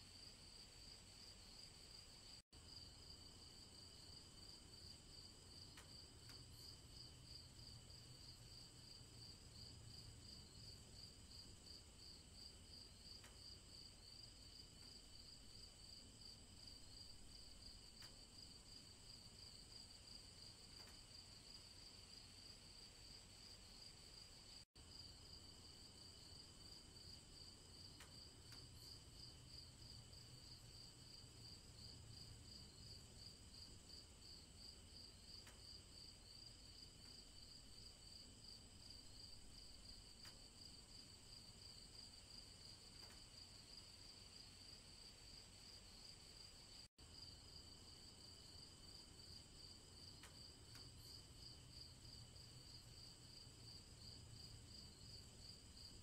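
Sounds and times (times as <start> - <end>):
crickets chirping: 0.1 - 56.0.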